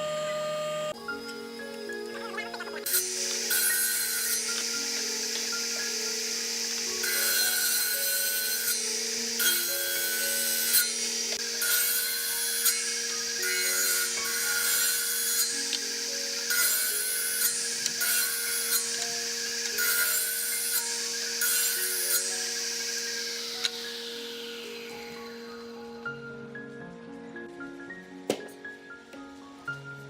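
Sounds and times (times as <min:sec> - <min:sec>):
background music with held tones: 0:00.0 - 0:30.0.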